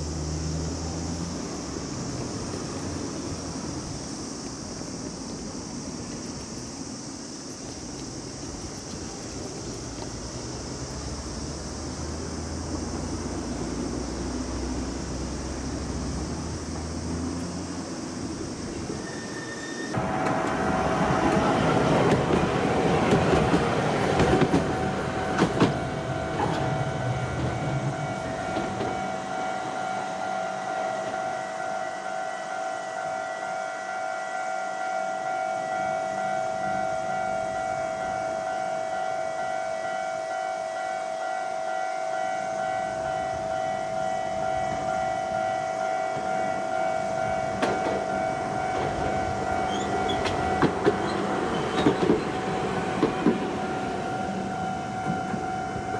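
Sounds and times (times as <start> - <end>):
tram high-pitched whine: 0.0 - 55.9
tram rumble on rails: 0.0 - 55.9.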